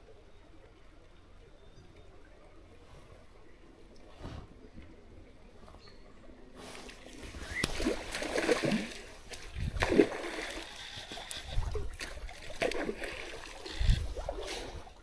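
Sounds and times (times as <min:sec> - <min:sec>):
water splashing and sloshing: 0:02.0 - 0:15.0.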